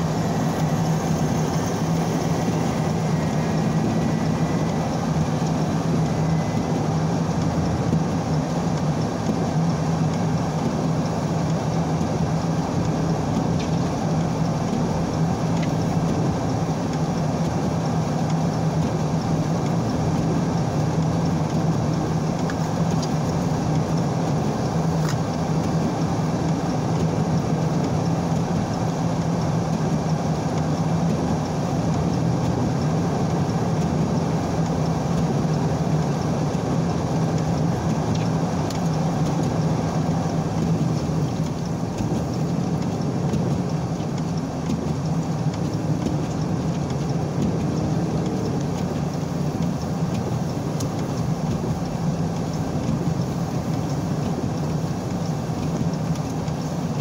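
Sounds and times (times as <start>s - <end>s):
car engine and road noise: 0.0s - 57.0s
constant low hum: 0.0s - 57.0s.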